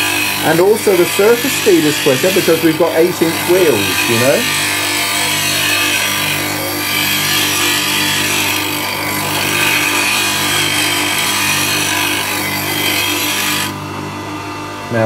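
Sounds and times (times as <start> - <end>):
tool grinding on wheel: 0.0 - 13.9
bench grinder motor hum: 0.0 - 15.0.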